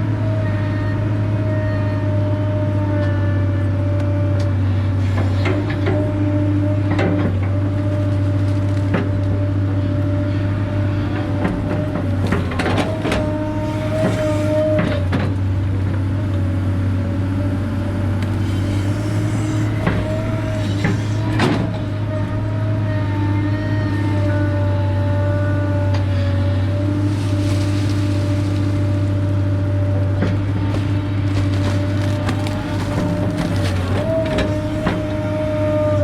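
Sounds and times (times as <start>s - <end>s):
excavator engine drone: 0.0s - 36.0s.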